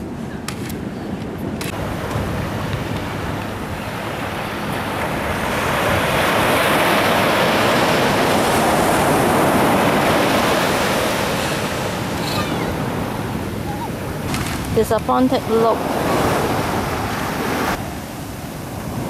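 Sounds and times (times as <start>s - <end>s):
wind rumbling on microphone: 0.0s - 19.0s
wave breaking on beach: 1.8s - 19.0s.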